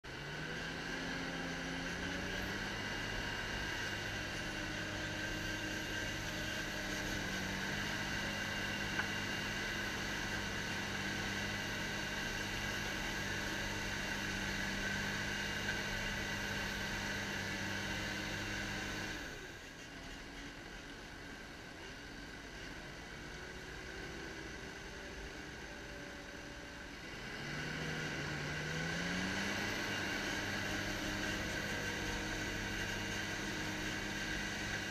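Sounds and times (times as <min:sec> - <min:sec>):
diesel engine revving with whine: 0:00.0 - 0:34.9.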